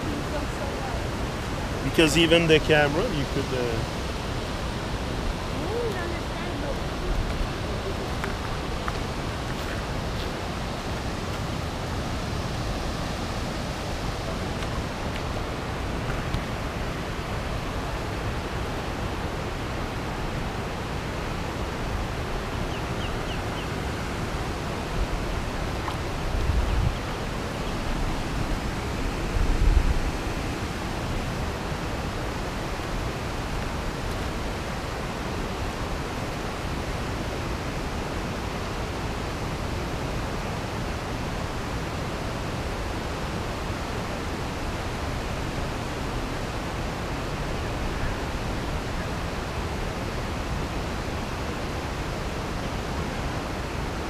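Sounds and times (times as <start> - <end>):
steady outdoor rushing noise: 0.0 - 54.0.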